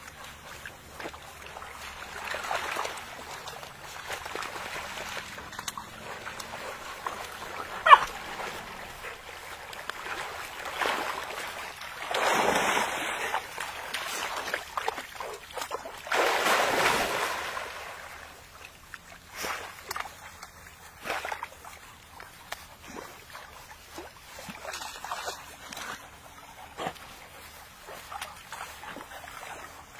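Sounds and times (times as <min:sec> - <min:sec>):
puppies splashing in water: 0:00.0 - 0:29.9.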